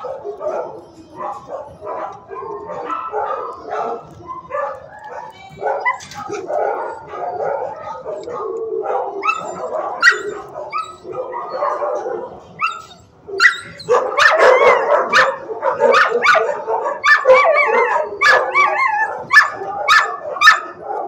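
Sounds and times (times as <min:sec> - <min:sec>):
dogs barking: 0:00.0 - 0:21.0
dogs whining and yipping: 0:00.0 - 0:21.0.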